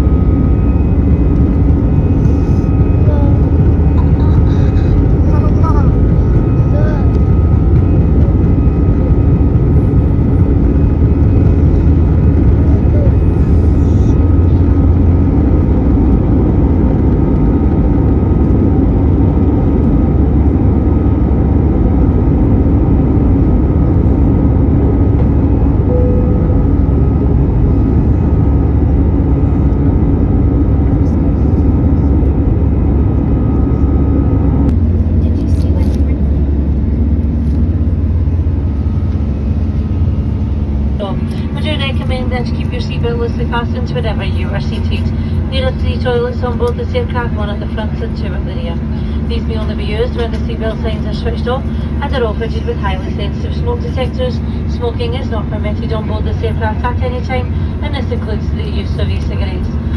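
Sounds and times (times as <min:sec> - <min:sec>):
airliner cabin engine rumble: 0:00.0 - 0:59.9
engine humming tones: 0:00.0 - 0:59.9.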